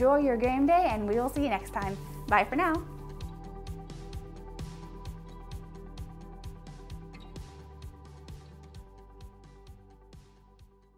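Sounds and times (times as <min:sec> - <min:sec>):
background music with steady beat: 0:00.0 - 0:10.9.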